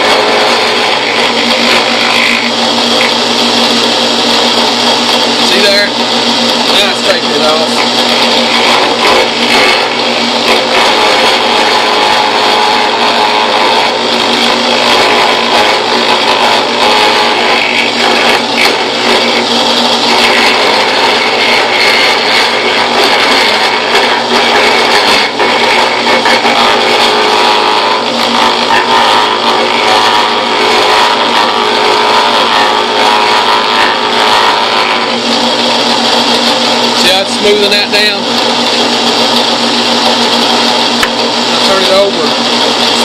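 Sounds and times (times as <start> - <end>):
drill press motor running: 0.0 - 43.0
router bit cutting wood: 0.0 - 43.0.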